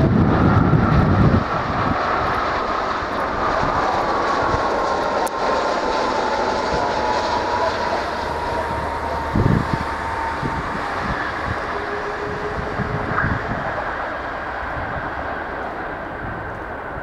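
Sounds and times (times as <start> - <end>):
jet engines roaring and whining: 0.0 - 17.0.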